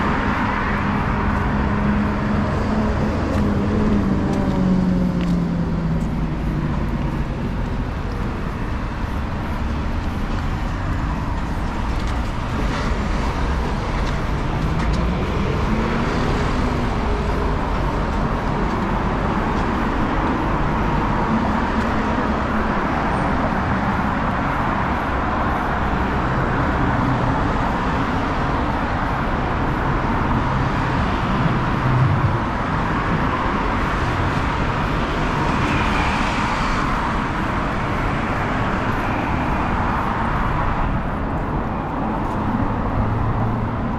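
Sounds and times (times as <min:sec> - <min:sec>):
continuous road noise: 0:00.0 - 0:43.9
vehicles passing: 0:00.0 - 0:43.9.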